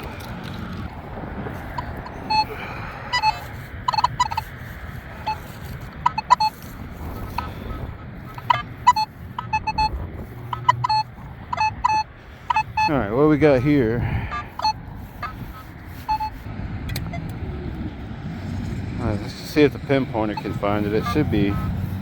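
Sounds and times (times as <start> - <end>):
wind rumble on microphone: 0.0 - 22.0
metal detector beeps: 1.6 - 17.3, 19.6 - 22.0.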